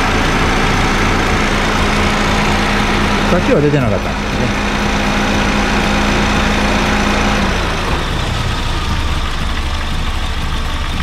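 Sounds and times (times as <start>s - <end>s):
car engine idling: 0.0s - 11.0s
compressor rumbling: 0.0s - 11.0s.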